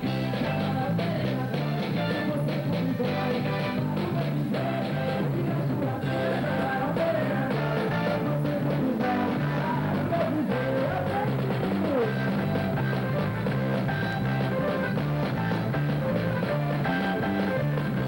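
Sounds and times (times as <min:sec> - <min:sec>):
live band music: 0:00.0 - 0:18.0.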